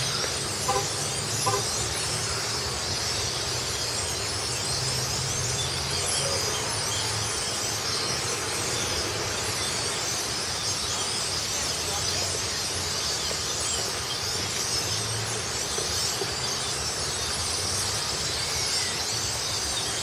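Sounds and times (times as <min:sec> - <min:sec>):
flock of birds chattering: 0:00.0 - 0:20.0.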